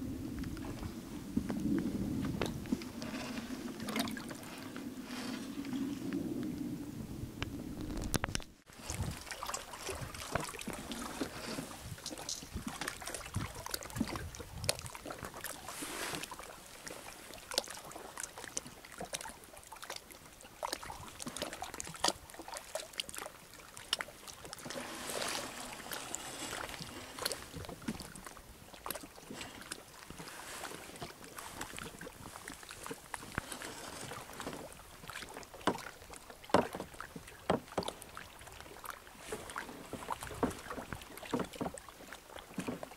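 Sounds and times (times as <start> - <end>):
paddle swishing water: 0.0 - 42.9
water drips and splashes: 1.5 - 4.8, 8.0 - 42.9.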